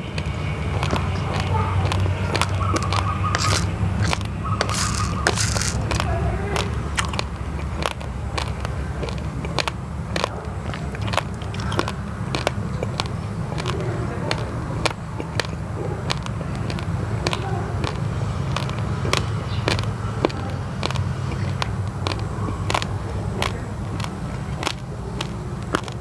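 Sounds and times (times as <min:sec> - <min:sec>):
crunchy chewing of raw rice: 0:00.0 - 0:26.0.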